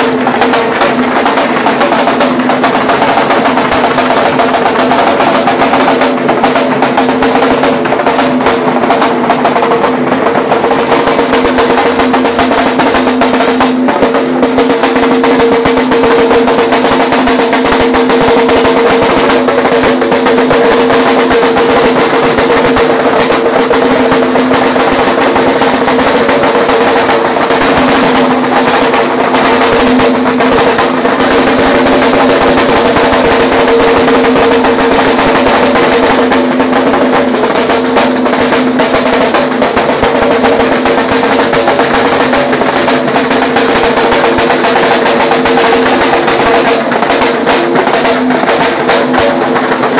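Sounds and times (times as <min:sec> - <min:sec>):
drum beaten in fast roll: 0:00.0 - 0:49.9.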